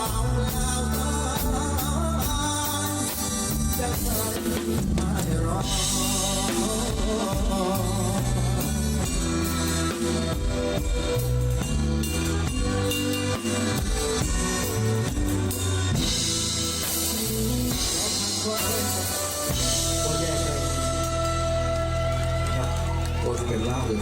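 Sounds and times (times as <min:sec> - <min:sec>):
busy bass line: 0:00.0 - 0:24.0
live band playing instrumental: 0:00.0 - 0:24.0.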